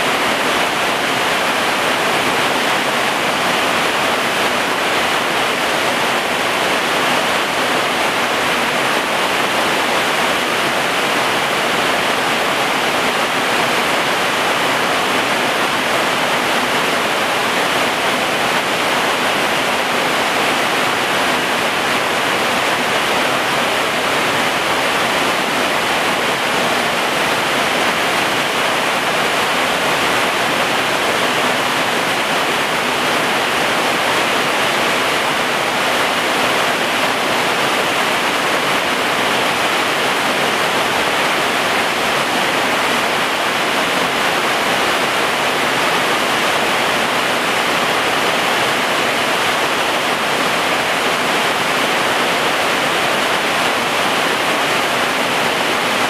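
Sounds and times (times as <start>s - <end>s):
heavy rain on plants: 0.0s - 56.0s.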